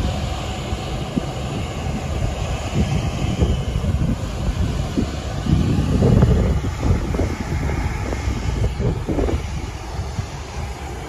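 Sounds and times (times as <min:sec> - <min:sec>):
jet engines rumbling: 0:00.0 - 0:11.0
wind buffeting microphone: 0:00.0 - 0:11.0.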